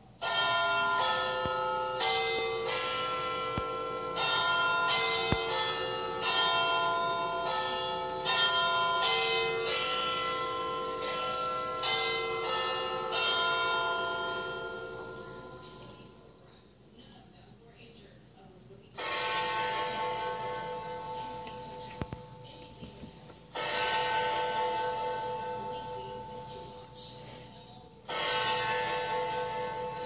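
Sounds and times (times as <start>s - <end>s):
clock chime striking: 0.0s - 16.4s, 19.0s - 30.0s.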